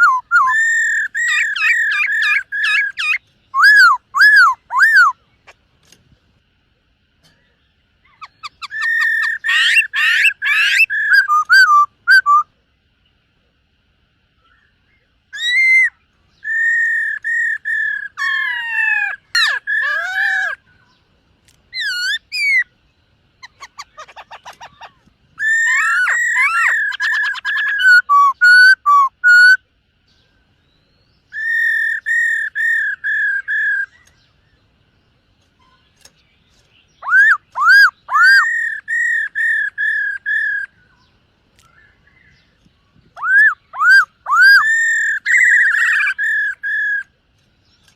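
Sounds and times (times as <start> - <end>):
bird singing whistled notes: 0.0 - 5.2, 7.3 - 12.5, 14.4 - 21.0, 21.7 - 34.6, 35.6 - 47.9
soft bird trill: 0.0 - 6.1, 6.7 - 13.4, 14.3 - 47.9.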